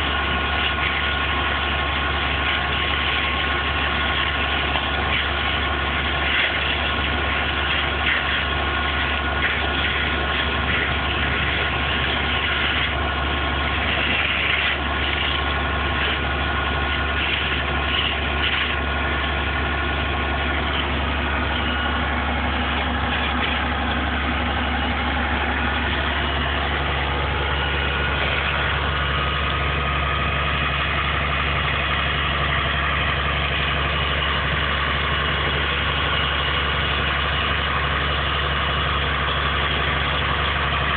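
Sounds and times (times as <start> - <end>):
vehicle engine idling: 0.0 - 40.9.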